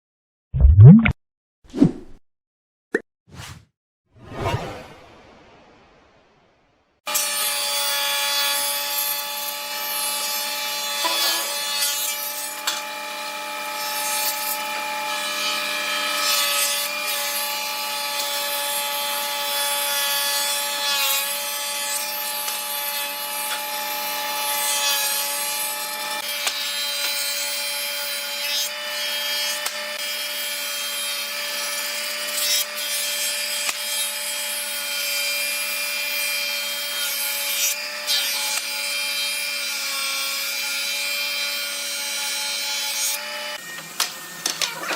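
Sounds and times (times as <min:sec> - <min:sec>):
power tool cutting wood: 0:07.1 - 0:44.9.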